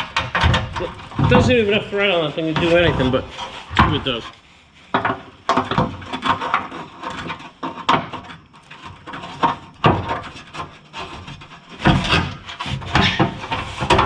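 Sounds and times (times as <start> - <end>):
hand tools scraping and knocking: 0.0 - 14.0.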